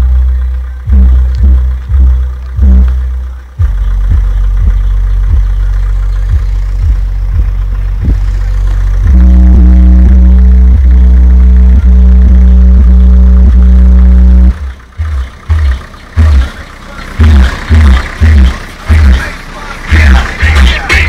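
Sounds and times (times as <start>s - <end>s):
loud bass music from subwoofer: 0.0s - 21.0s.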